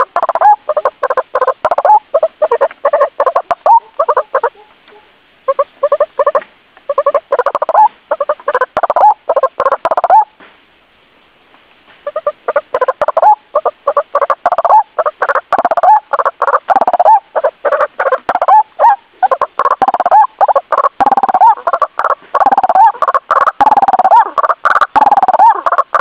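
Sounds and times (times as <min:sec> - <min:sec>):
waterhen calling: 0:00.0 - 0:10.4, 0:11.9 - 0:26.0.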